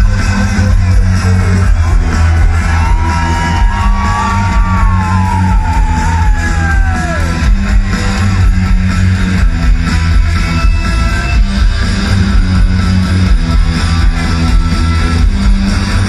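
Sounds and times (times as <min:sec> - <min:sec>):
live rock band playing loud: 0:00.0 - 0:16.0.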